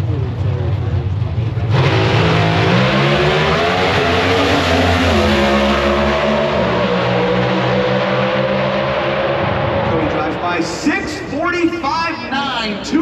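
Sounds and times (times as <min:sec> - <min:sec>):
drag car engines at full throttle: 0:00.0 - 0:12.3.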